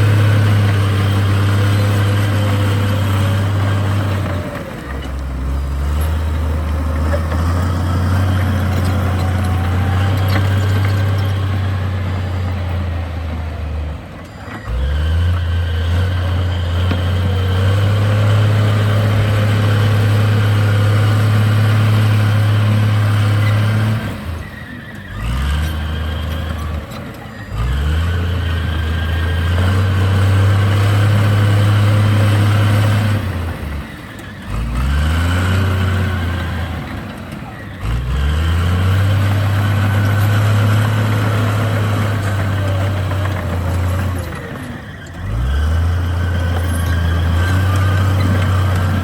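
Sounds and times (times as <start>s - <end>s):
heavy diesel engine revving: 0.0s - 49.0s.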